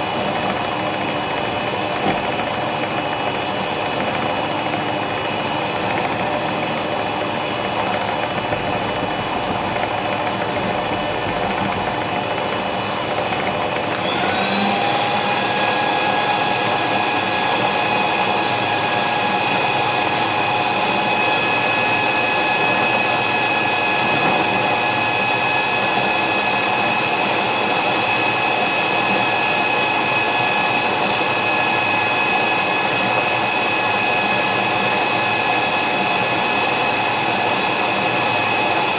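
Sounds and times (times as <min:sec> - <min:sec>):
electric mixer motor whine: 0:00.0 - 0:38.9.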